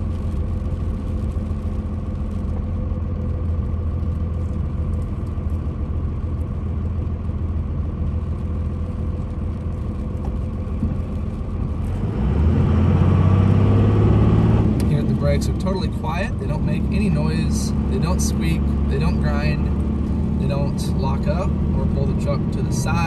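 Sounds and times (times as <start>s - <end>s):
diesel engine rumble: 0.0s - 23.0s
road noise: 0.0s - 23.0s.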